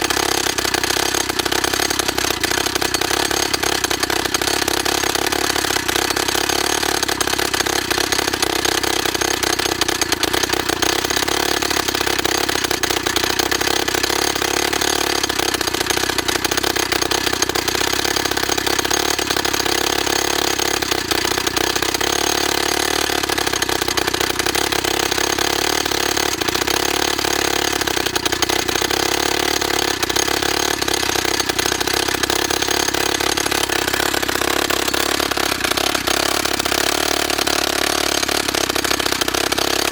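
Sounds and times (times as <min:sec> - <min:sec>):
petrol rock drill clattering: 0:00.0 - 0:39.9.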